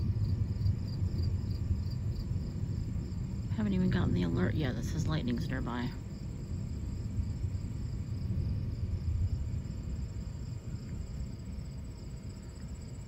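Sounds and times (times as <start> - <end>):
distant thunder rumble: 0.0 - 13.0
night insects trilling: 0.0 - 13.0.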